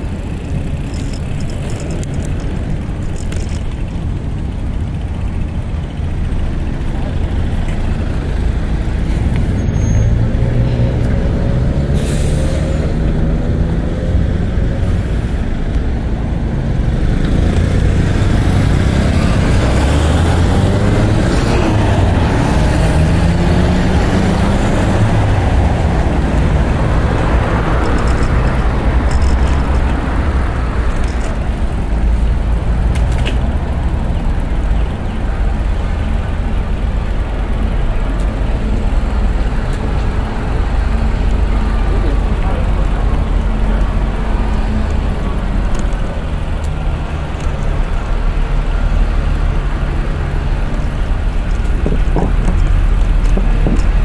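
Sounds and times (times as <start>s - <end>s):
heavy vehicle engines passing: 0.0s - 54.0s
low traffic rumble: 0.0s - 54.0s.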